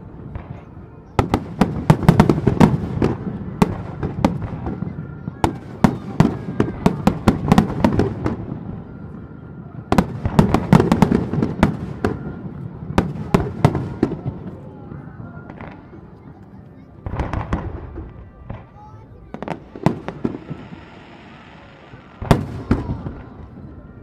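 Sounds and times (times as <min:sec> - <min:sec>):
firework bursts and bangs: 0:00.0 - 0:16.2, 0:17.0 - 0:24.0.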